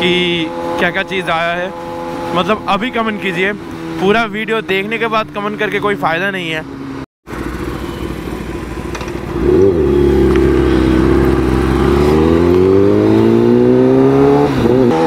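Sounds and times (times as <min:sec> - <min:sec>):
motorcycle engine accelerating: 0:00.0 - 0:05.8, 0:06.8 - 0:15.0.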